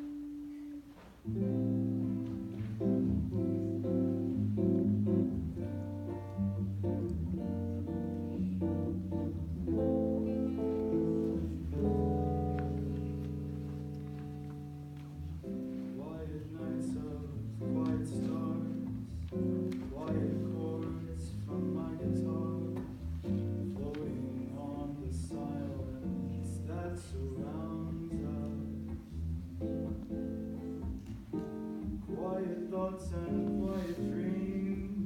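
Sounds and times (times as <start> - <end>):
solo jazz guitar: 0.0 - 35.0.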